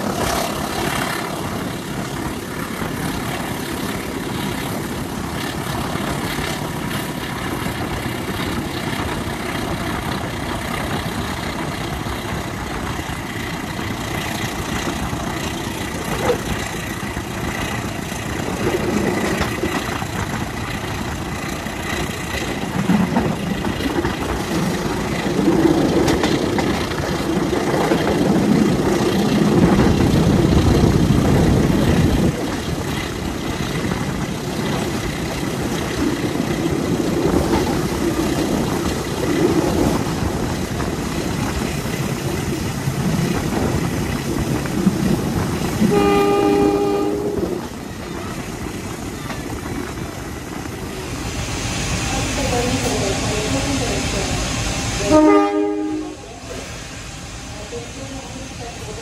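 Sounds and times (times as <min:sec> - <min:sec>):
diesel locomotive engine: 0:00.0 - 0:59.0
train wheels rumbling on rail: 0:00.0 - 0:59.0.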